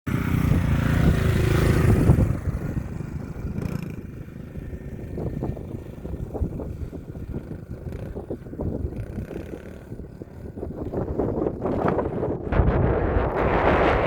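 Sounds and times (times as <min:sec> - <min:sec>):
dirt bike engine running: 0:00.1 - 0:14.0.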